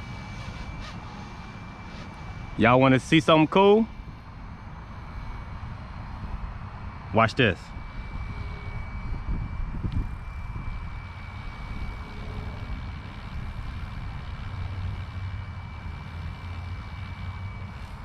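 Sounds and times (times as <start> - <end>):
helicopter rotors whining: 0.0 - 18.0.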